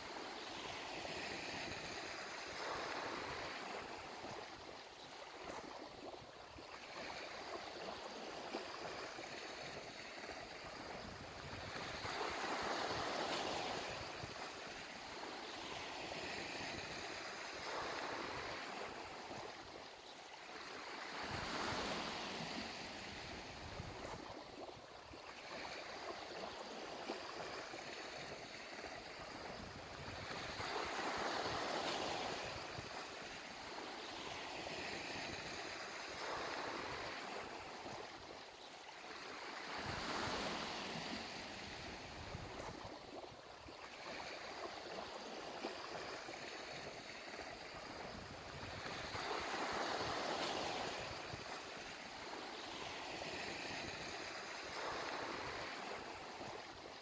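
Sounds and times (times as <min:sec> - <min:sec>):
waves washing onto shore: 0:00.0 - 0:57.0.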